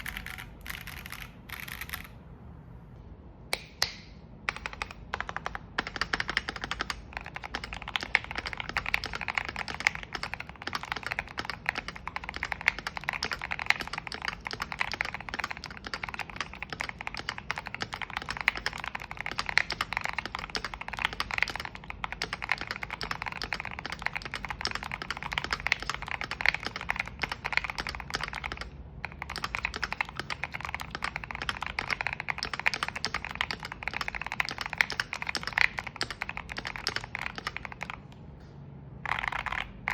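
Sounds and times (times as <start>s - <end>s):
fast typing on mechanical keyboard: 0.0s - 2.2s, 4.5s - 38.1s, 39.0s - 39.9s.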